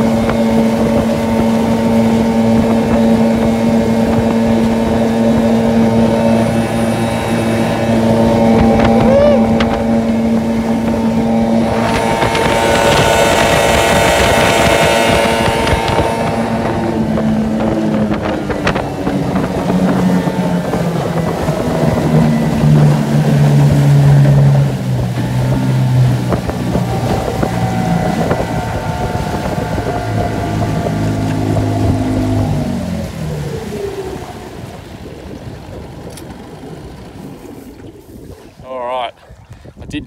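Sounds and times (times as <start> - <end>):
water rushing: 0.0 - 39.6
outboard engine running hard: 0.0 - 40.0
wind buffeting microphone: 0.0 - 40.0.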